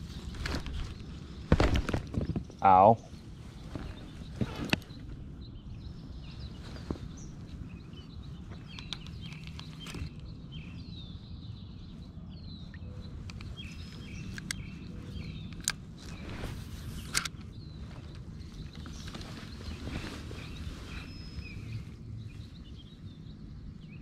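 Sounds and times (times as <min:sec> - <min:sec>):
songbirds chirping and singing: 0:00.0 - 0:24.0
steady low rumble: 0:00.0 - 0:24.0.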